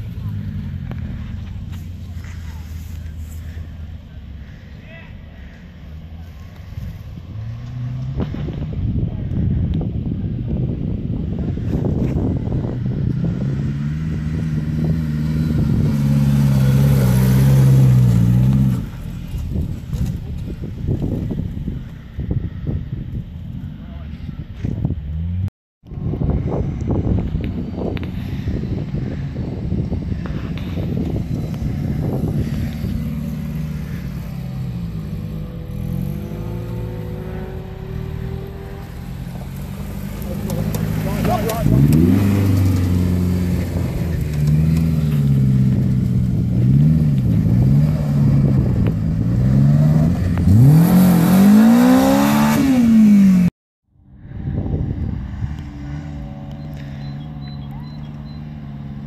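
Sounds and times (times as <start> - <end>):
car engine under load: 0.0 - 59.0.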